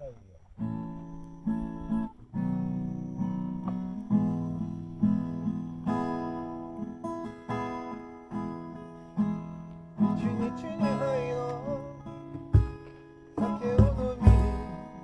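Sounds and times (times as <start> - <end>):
acoustic guitar strumming chords: 0.6 - 15.0.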